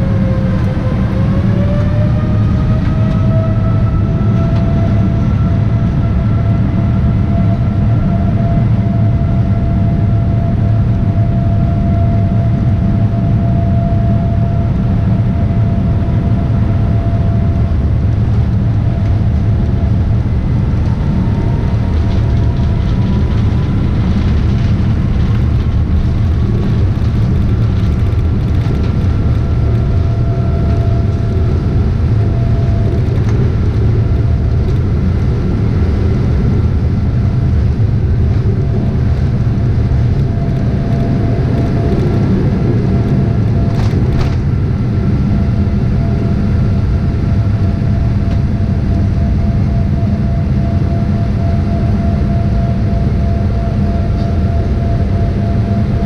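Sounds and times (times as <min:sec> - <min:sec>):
jet engine rumble with whine: 0:00.0 - 0:56.0.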